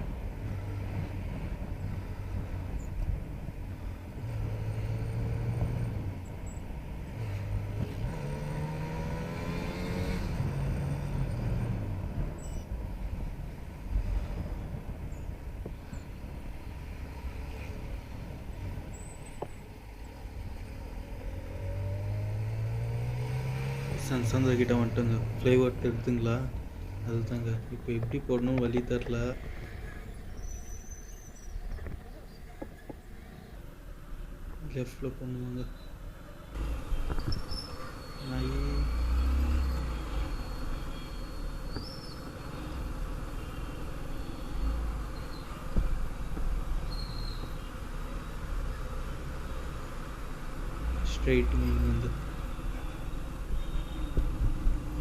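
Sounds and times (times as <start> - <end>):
road rumble: 0.0 - 55.0
wind: 0.0 - 55.0.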